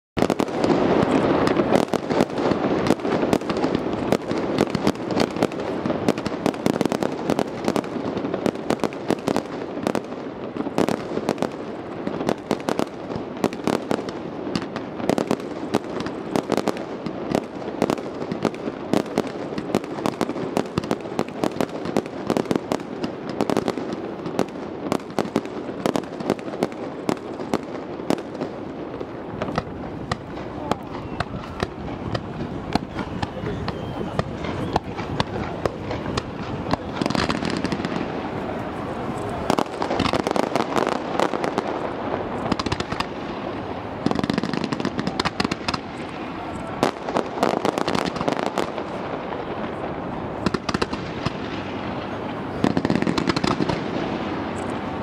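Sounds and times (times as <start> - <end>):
fireworks bangs and crackles: 0.2 - 55.0.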